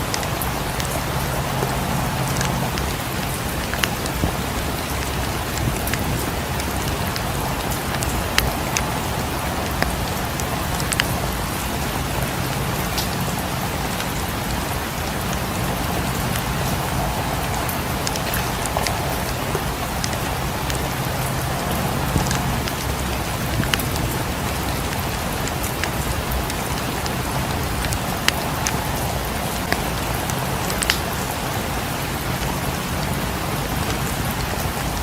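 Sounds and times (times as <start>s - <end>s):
sharp ticks and pops: 0.0s - 13.4s, 15.2s - 24.1s, 24.8s - 31.2s
steady rain hiss: 0.0s - 35.0s.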